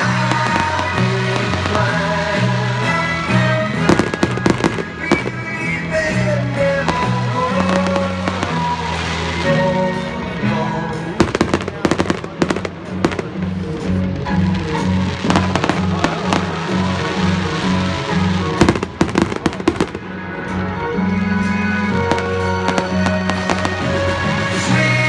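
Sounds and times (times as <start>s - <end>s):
fireworks bangs and crackles: 0.0s - 20.8s, 21.8s - 25.0s
loud music with pulsing bass: 0.0s - 25.0s.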